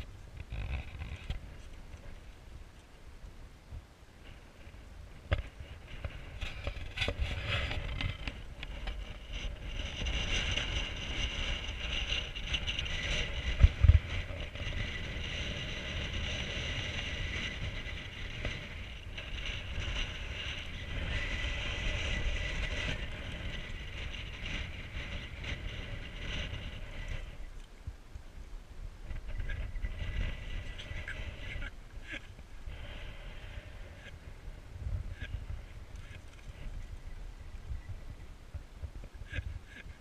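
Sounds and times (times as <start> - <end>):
steady high whine: 0.0 - 40.0
wind buffeting microphone: 0.0 - 40.0.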